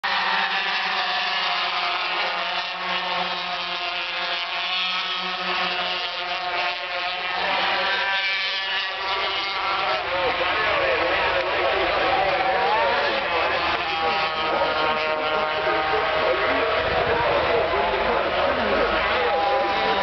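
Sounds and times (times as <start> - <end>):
racing motorcycles whining past: 0.1 - 20.0.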